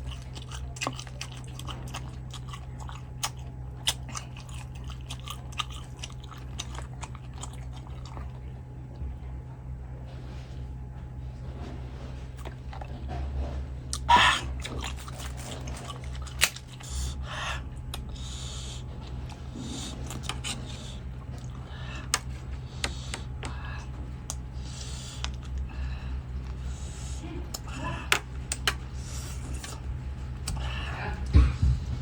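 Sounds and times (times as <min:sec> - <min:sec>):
chewing and mouth noises: 0:00.0 - 0:09.2, 0:12.1 - 0:31.4
low hum: 0:00.0 - 0:32.0.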